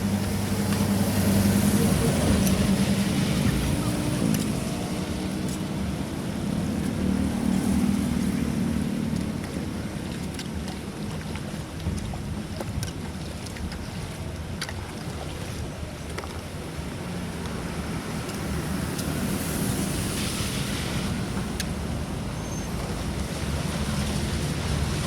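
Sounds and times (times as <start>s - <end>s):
water rushing through culvert: 0.0s - 25.0s.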